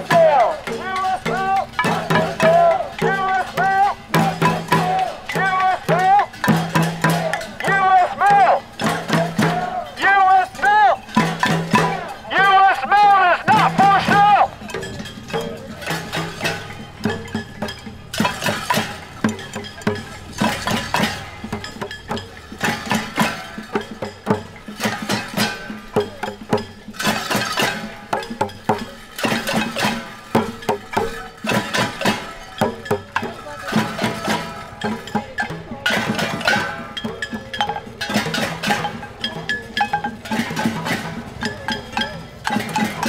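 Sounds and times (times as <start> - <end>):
pots and pans being beaten: 0.0 - 43.0.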